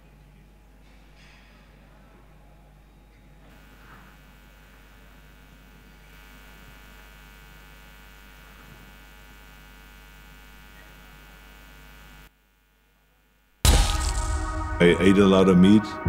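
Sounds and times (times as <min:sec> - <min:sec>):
electrical mains hum: 0:00.0 - 0:15.7.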